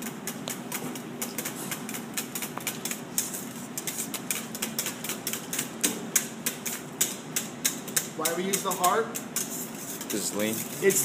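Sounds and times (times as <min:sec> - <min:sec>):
whisk clicking against metal pot: 0:00.0 - 0:11.0.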